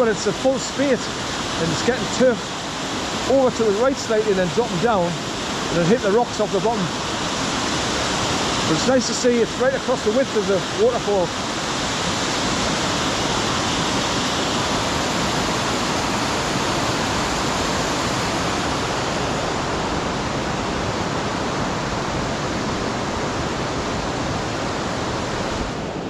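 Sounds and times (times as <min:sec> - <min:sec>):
waterfall rushing onto rocks: 0:00.0 - 0:25.6.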